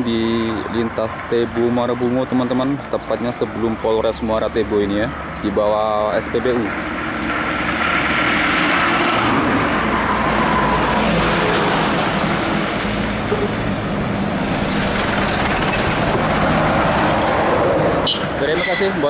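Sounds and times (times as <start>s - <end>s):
truck engine passing: 0.0s - 19.0s
tyres on asphalt: 0.0s - 19.0s.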